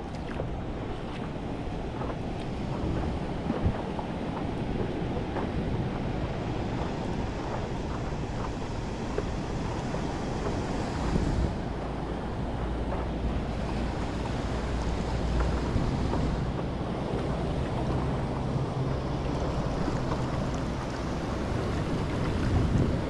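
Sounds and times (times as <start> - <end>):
paddle splashes and drips: 0.0 - 23.0
wind rumbling on microphone: 0.0 - 23.0.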